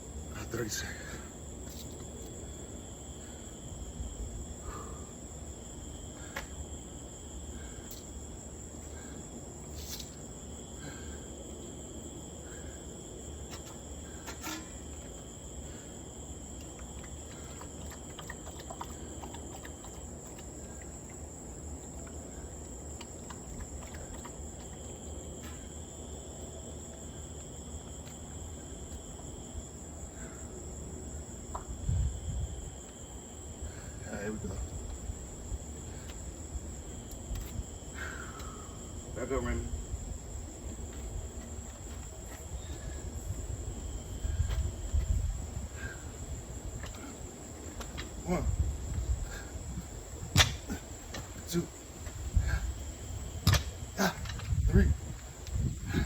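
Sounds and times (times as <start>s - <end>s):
insects shrilling: 0.0s - 31.5s, 32.6s - 56.0s
lower insect trill: 0.0s - 56.0s.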